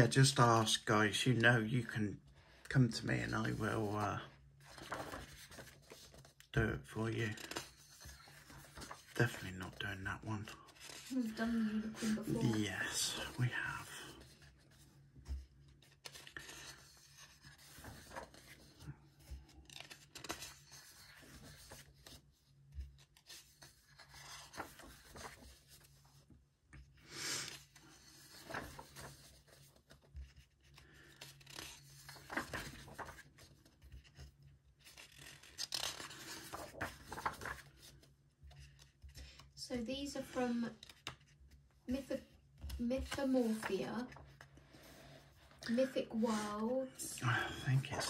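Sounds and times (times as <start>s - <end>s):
paper pages turning and rubbing: 3.2s - 46.9s, 47.7s - 48.0s.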